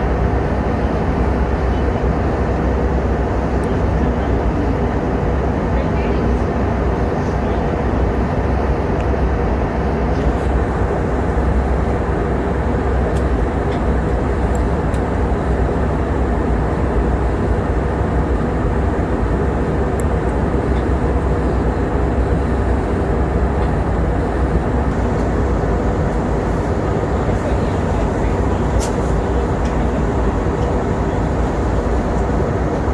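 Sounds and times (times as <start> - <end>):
airliner cabin engine noise: 0.0 - 32.9.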